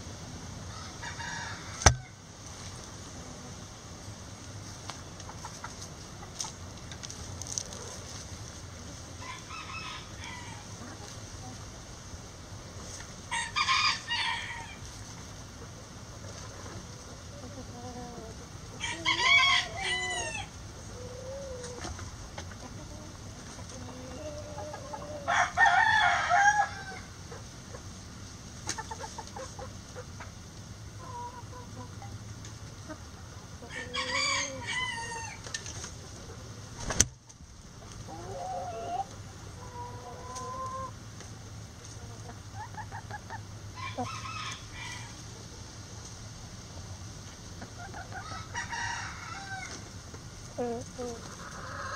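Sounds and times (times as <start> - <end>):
chickens clucking and calling: 0.6 - 37.0, 37.7 - 51.9.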